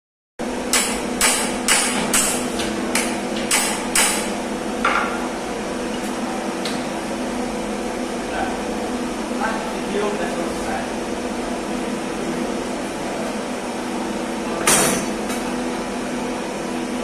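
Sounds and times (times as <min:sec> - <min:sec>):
steady hum: 0:00.4 - 0:17.0.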